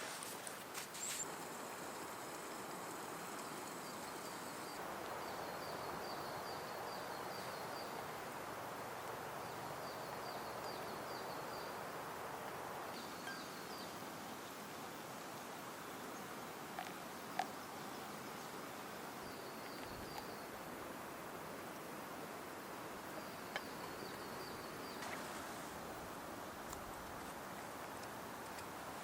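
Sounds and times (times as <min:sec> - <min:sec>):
forest ambience rushing hiss: 0:00.0 - 0:29.0.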